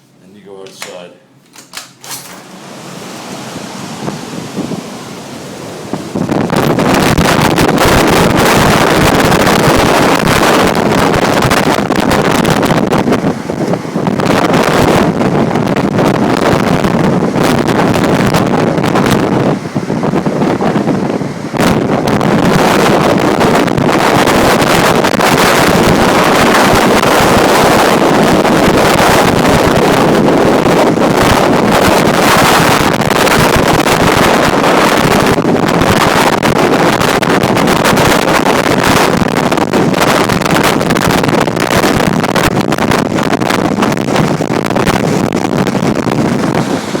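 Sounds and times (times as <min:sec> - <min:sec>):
strong wind blasting microphone: 0:00.0 - 0:47.0.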